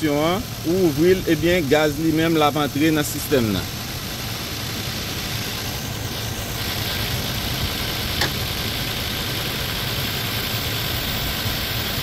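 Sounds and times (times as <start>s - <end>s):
air conditioning running: 0.0s - 12.0s
car engine idling: 0.0s - 12.0s.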